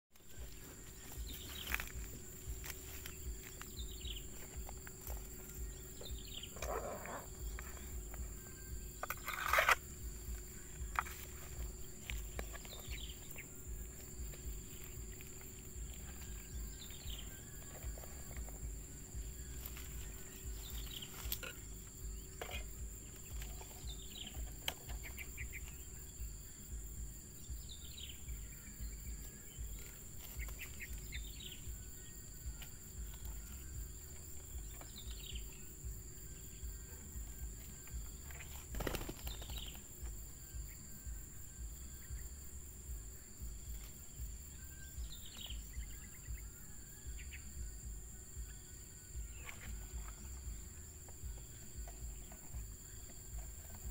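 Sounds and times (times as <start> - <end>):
high insect drone: 0.1 - 53.9.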